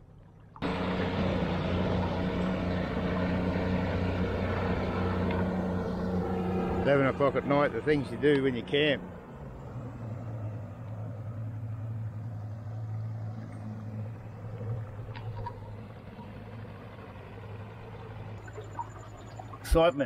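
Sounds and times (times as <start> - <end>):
outboard motor running slowly: 0.0 - 20.0.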